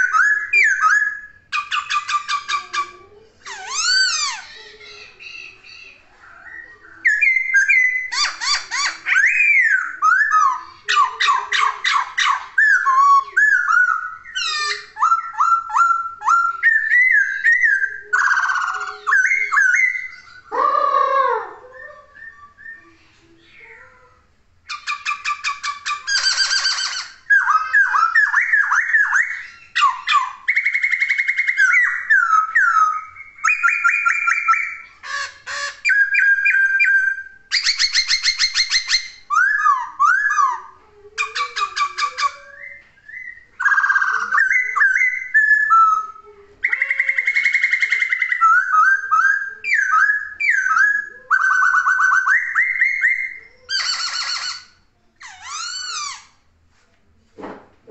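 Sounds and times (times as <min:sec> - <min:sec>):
bird singing whistles and trills: 0:00.0 - 0:02.9, 0:03.5 - 0:20.6, 0:21.7 - 0:23.1, 0:24.7 - 0:56.3.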